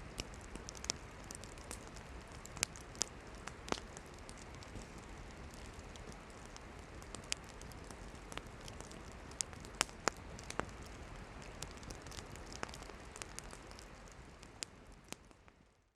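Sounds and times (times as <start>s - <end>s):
firewood crackling and popping: 0.0s - 15.9s
hiss of campfire flames: 0.0s - 15.9s.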